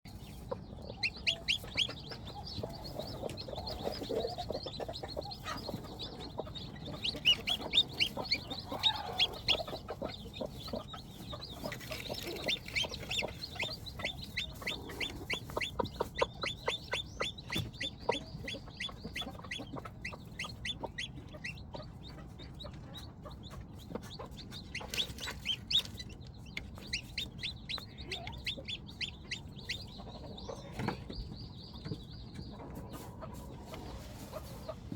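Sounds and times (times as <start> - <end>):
chickens chirping: 0.1 - 34.9
chickens clucking: 0.1 - 34.9.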